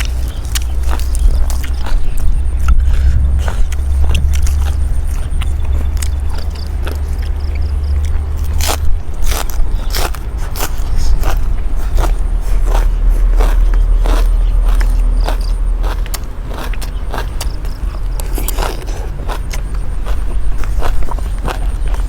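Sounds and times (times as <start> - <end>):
food cracking and scraping: 0.0 - 22.0
low rumble: 0.0 - 22.0.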